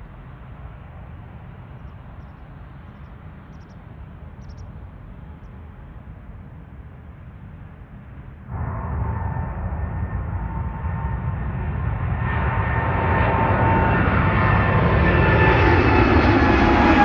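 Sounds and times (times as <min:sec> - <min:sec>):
airport background rumble: 0:00.0 - 0:17.0.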